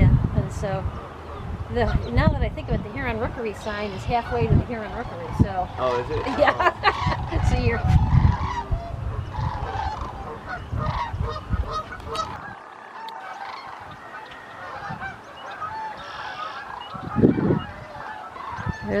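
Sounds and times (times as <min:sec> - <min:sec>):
flock of waterbirds calling: 0:00.0 - 0:19.0.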